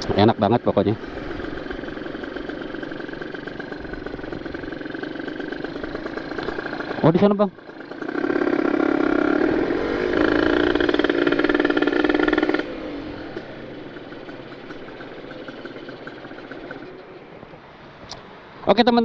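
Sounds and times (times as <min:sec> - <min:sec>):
two-stroke motorcycle engine revving: 0:00.0 - 0:18.2.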